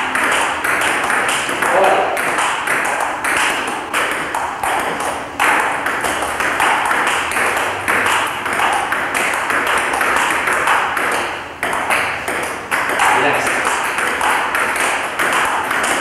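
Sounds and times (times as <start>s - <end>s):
ping-pong ball clicking: 0.0s - 16.0s.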